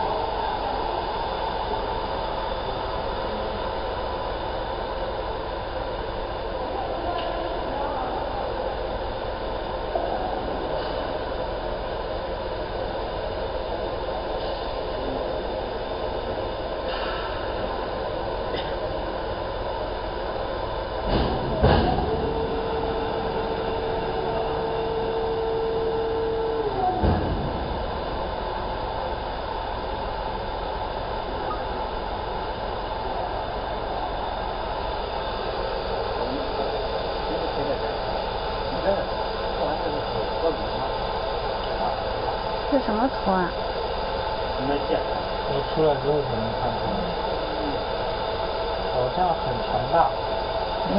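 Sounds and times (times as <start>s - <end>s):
laser marking machine humming: 7.7s - 50.9s.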